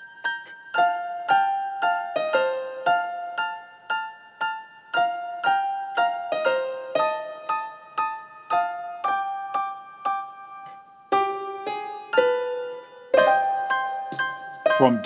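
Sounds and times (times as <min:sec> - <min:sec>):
keyboard piano-like melody: 0:00.0 - 0:15.0.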